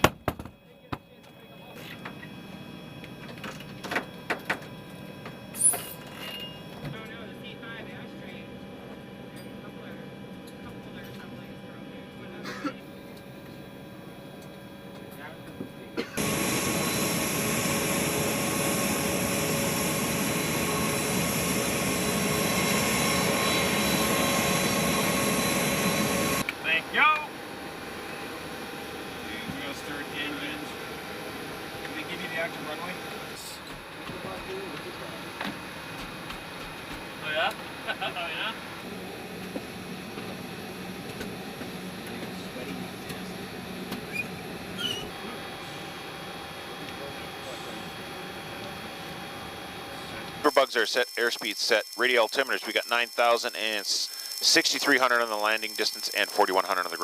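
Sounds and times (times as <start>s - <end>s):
jet aircraft engines running: 0.2s - 57.0s.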